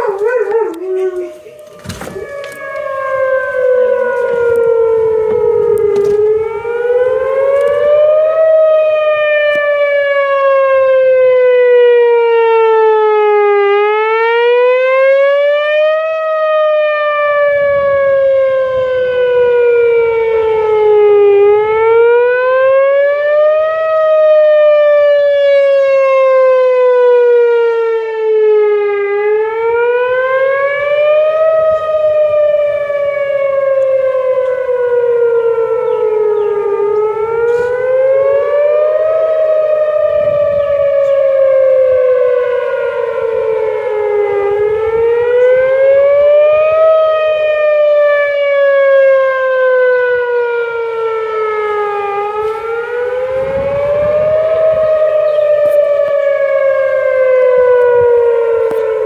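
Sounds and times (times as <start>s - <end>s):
warning siren wailing: 0.0s - 59.0s.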